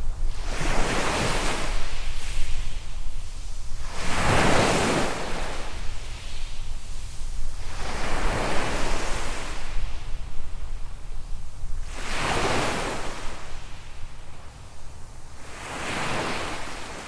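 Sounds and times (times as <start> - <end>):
small waves washing onto sand: 0.0 - 17.0.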